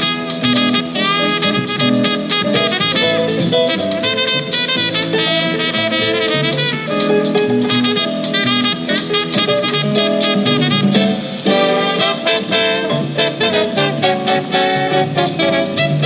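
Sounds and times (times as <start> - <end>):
brass: 0.0 - 16.0
drum kit beat: 0.0 - 16.0
saxophone: 0.0 - 16.0.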